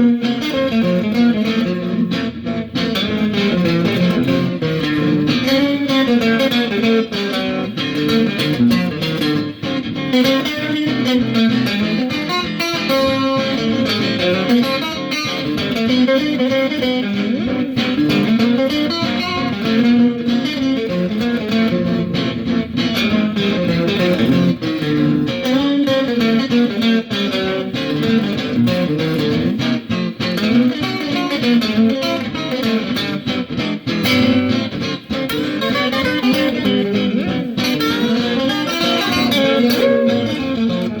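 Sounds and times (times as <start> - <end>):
plucked guitar melody: 0.0 - 41.0.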